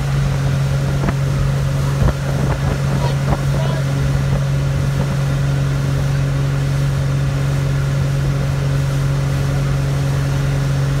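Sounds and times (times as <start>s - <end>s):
motorboat engine droning: 0.0s - 11.0s
water rushing: 0.0s - 11.0s
wind: 0.0s - 11.0s.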